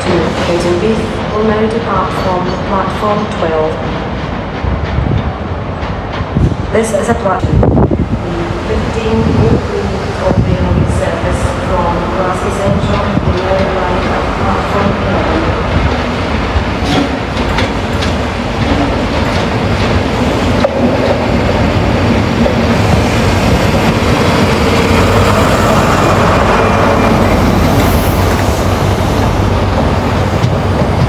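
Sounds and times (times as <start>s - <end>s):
train running on tracks: 0.0s - 31.0s.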